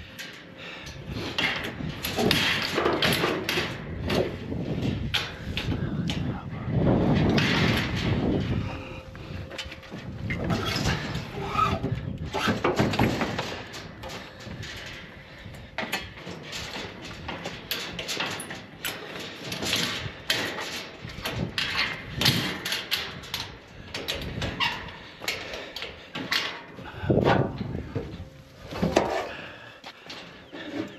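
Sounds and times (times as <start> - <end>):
scrap metal clanking against cage: 0.0 - 6.3, 9.3 - 29.4.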